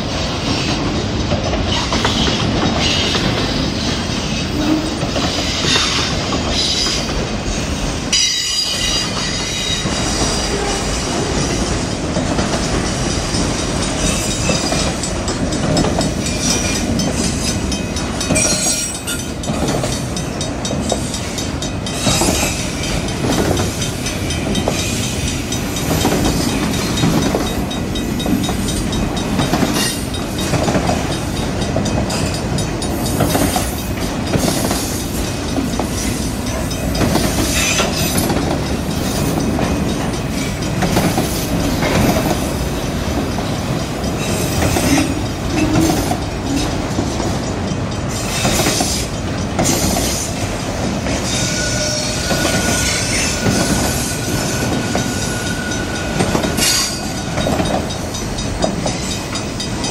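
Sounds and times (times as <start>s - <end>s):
freight train rumbling past: 0.0s - 59.9s
wheels clattering on rail joints: 0.0s - 59.9s.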